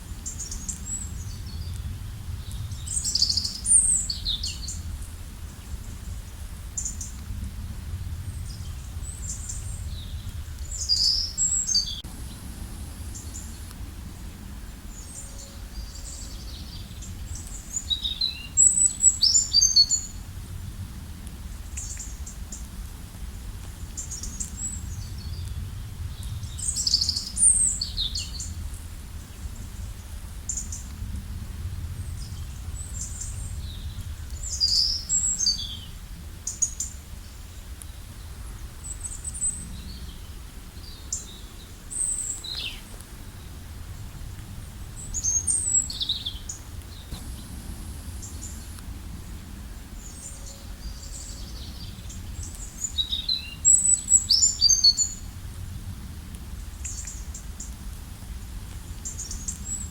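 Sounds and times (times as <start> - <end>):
songbird singing: 0.0 - 20.2, 23.9 - 31.0, 31.8 - 55.3
low background rumble: 0.0 - 36.4, 37.0 - 53.0.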